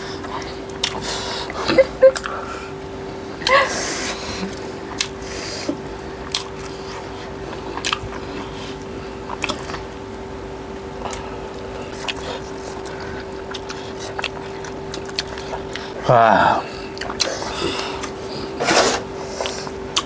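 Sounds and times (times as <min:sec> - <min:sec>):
person chewing food: 0:00.0 - 0:02.7, 0:03.3 - 0:20.0
steady hum: 0:00.0 - 0:20.0.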